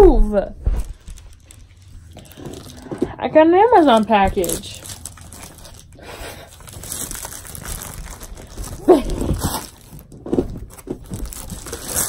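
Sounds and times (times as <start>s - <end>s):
plastic mailer crinkling: 0.9s - 12.0s.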